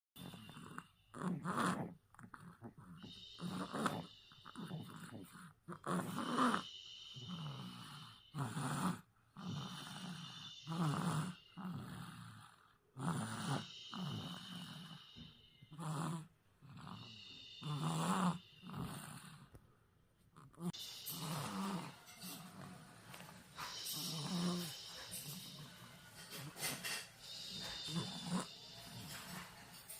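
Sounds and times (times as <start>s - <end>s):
baby snoring: 0.2s - 19.6s, 20.4s - 29.9s.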